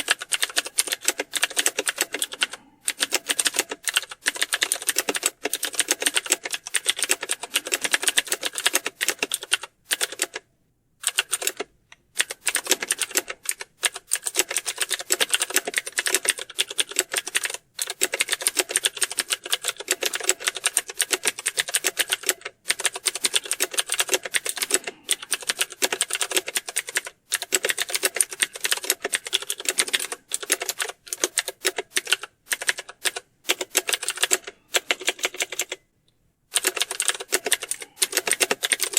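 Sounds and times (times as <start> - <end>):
fast keyboard typing: 0.0 - 10.4, 11.0 - 35.8, 36.5 - 38.9.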